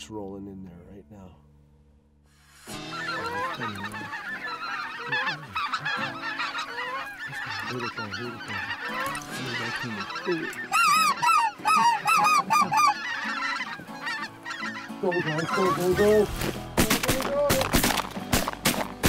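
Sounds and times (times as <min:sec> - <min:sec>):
geese honking: 0:02.6 - 0:19.0.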